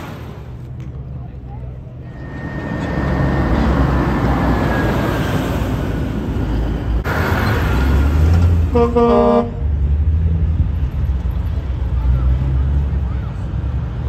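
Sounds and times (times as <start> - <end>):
heavy trucks rumbling past: 0.0 - 14.0.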